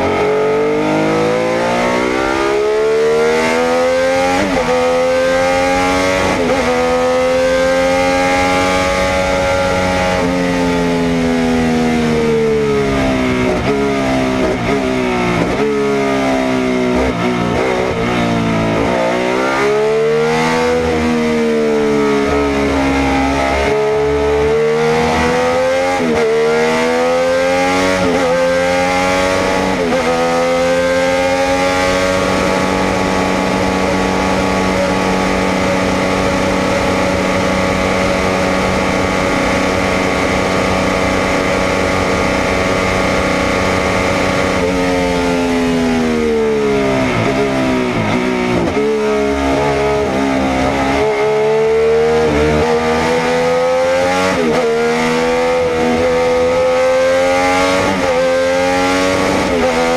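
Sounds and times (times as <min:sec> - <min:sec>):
racing engine revving: 0:00.0 - 0:59.9.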